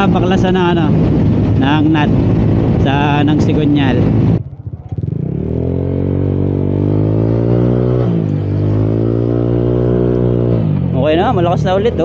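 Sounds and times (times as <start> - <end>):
scooter engine accelerating: 0.9 - 12.0.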